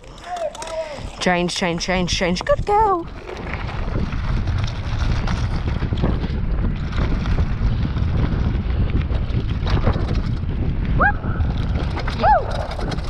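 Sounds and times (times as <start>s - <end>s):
stones and bike rattling: 0.0s - 13.0s
wind rumble on microphone: 0.0s - 13.0s
tyres crunching on gravel: 0.1s - 13.0s.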